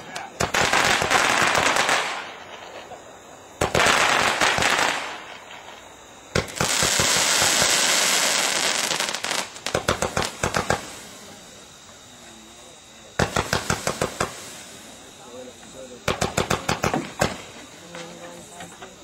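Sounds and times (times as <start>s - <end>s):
fireworks crackling and hissing: 0.0s - 19.0s
fireworks sharp bangs: 0.0s - 19.0s.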